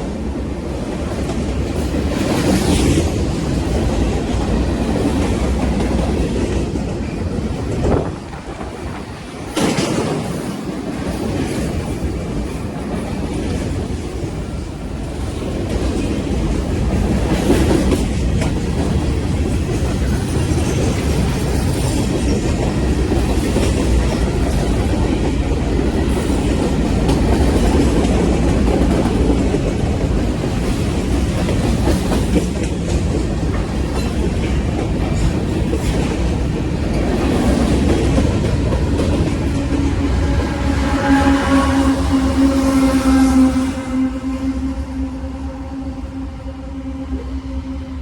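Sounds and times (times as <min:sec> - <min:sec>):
wheels clickety-clack on rail joints: 0:00.0 - 0:44.7
train rumbling: 0:00.0 - 0:48.0.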